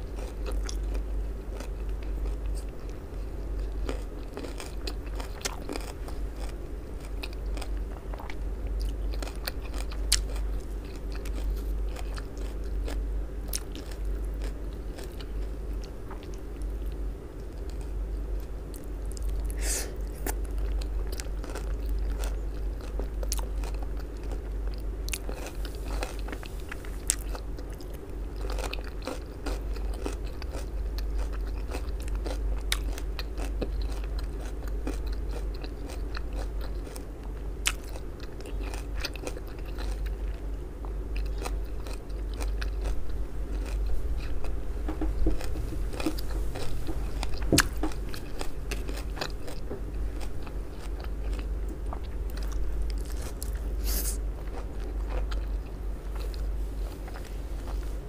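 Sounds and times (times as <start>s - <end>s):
chewing and crunching food: 0.0s - 58.0s
steady low hum: 0.0s - 58.0s.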